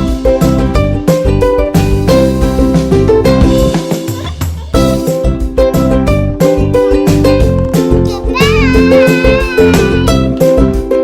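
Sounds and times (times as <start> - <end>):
upbeat guitar music with beat: 0.0 - 11.0.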